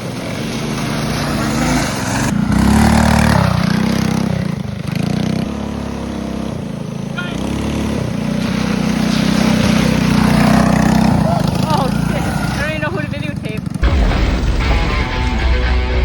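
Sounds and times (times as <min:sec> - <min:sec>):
mini bike engine revving: 0:00.0 - 0:13.8.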